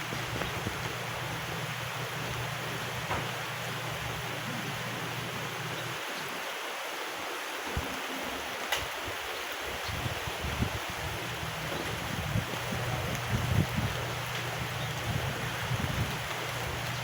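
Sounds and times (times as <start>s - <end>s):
hurricane wind: 0.0s - 17.0s
rain: 0.0s - 17.0s.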